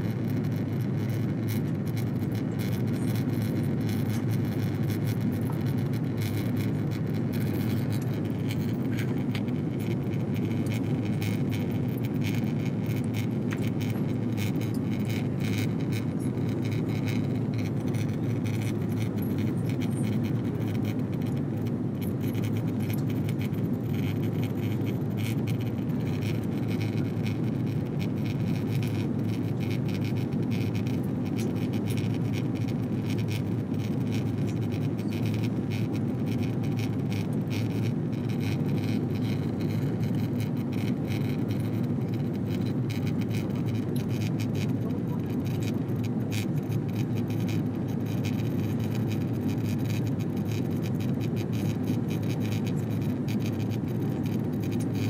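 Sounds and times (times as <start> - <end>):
jet engine and airflow roar: 0.0 - 46.9.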